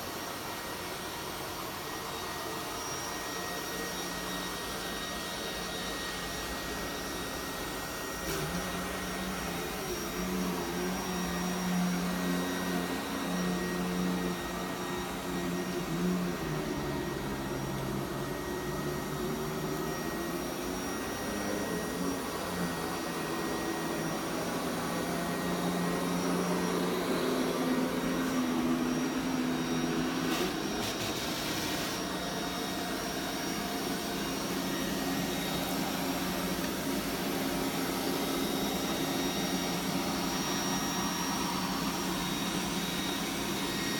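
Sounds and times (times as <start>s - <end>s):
robot vacuum humming: 0.2s - 43.9s.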